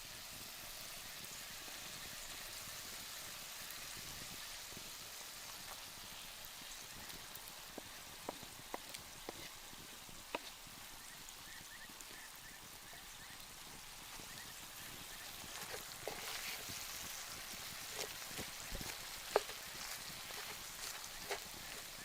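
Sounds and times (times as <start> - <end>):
fire crackles and pops: 0.0 - 22.0
food sizzling over campfire: 0.0 - 22.0.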